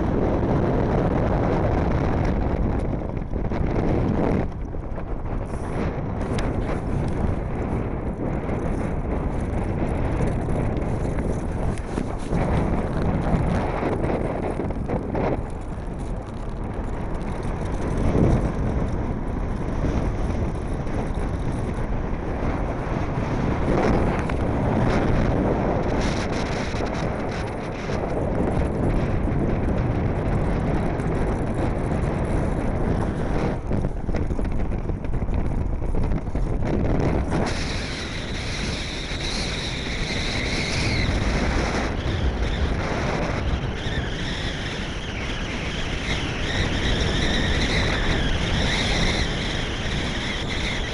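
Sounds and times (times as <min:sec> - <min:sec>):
land yacht rolling fast: 0:00.0 - 0:50.9
wind buffeting microphone: 0:00.0 - 0:50.9.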